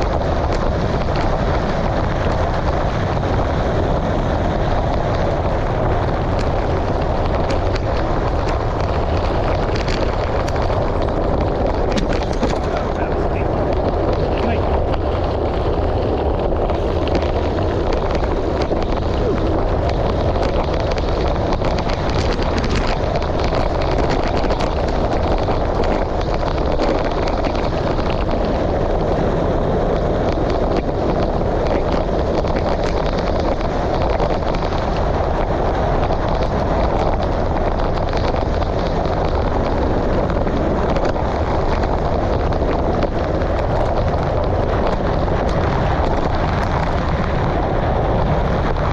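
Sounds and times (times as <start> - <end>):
tyres rolling on gravel: 0.0 - 48.9
wind rushing over microphone: 0.0 - 48.9.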